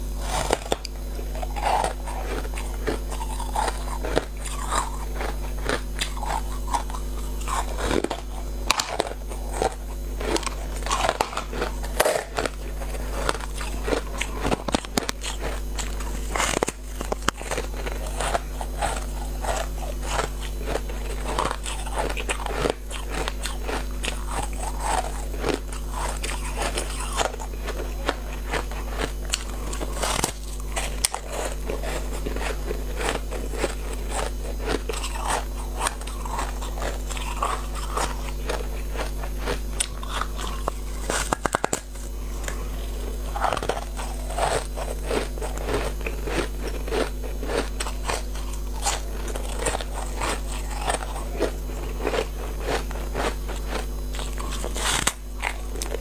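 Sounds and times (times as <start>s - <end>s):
crunchy ice chewing: 0.0s - 56.0s
steady low hum: 0.0s - 56.0s.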